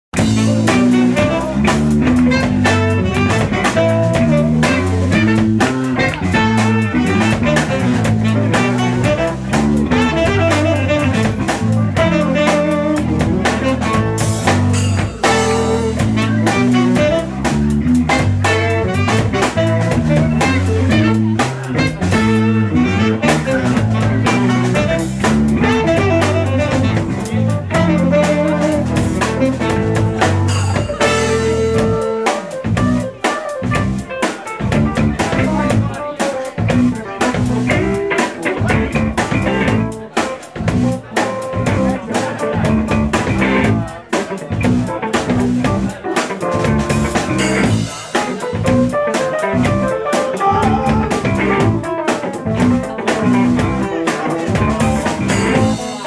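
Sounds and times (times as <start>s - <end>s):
drum kit: 0.1s - 56.0s
electric bass line: 0.1s - 56.0s
saxophone: 0.2s - 44.1s, 46.6s - 56.0s
electric guitar: 0.2s - 56.0s.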